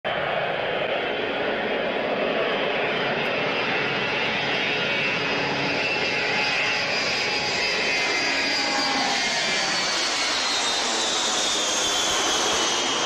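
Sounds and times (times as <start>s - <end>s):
high engine whine: 0.1s - 13.0s
jet engines roaring: 0.1s - 13.0s.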